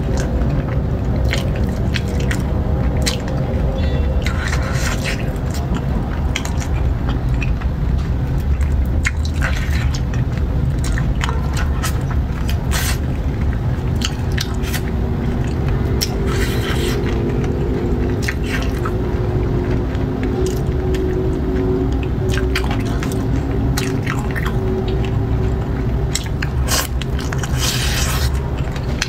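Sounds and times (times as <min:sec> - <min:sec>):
steady low rumble: 0:00.0 - 0:29.0
wet chewing and sucking: 0:00.0 - 0:29.0.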